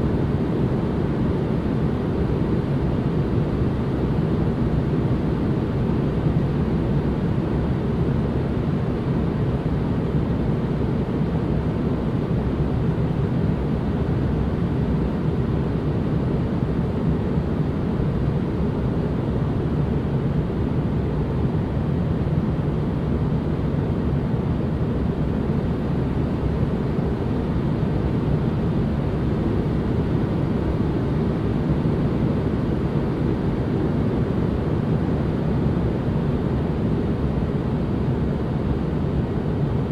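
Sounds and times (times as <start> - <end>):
white noise rumble and hiss: 0.0 - 39.9.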